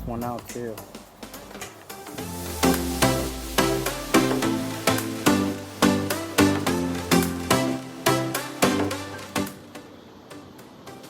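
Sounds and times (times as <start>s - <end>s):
struck ringing notes music: 0.2s - 10.5s.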